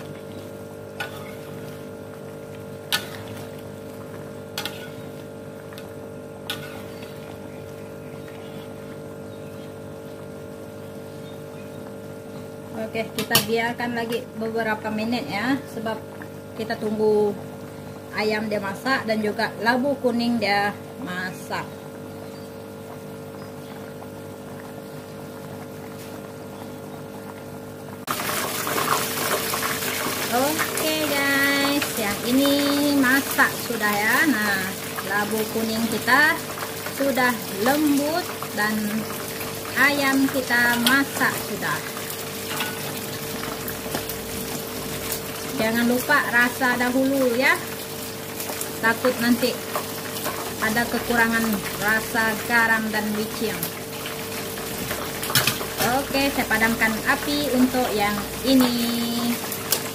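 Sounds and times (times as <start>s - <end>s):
broth bubbling at a boil: 0.0s - 59.9s
broth simmering: 0.0s - 59.9s.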